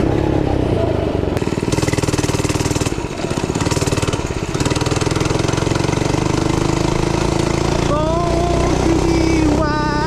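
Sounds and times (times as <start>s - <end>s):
mini bike engine running: 0.0s - 10.0s.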